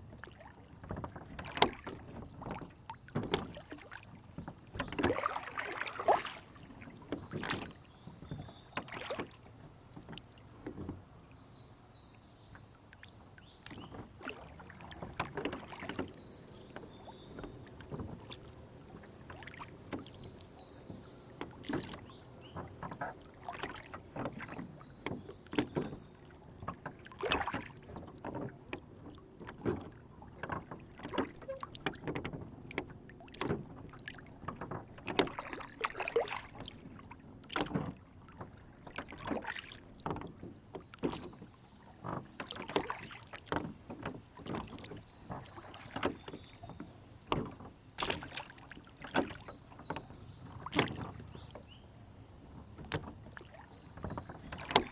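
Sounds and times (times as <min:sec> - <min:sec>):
low water wash: 0:00.0 - 0:54.9
water slapping against a boat: 0:00.0 - 0:54.9.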